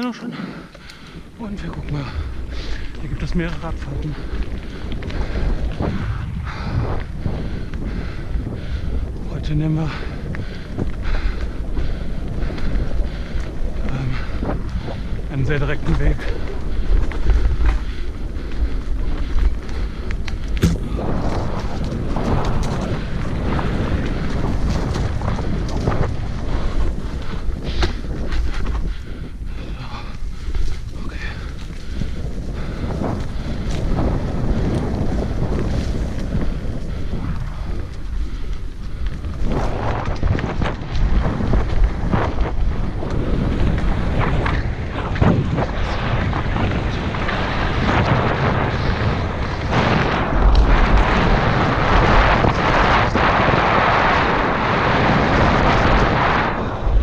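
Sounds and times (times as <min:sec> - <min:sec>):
tyres rolling over gravel: 0:00.0 - 0:57.0
wind buffeting microphone: 0:00.0 - 0:57.0.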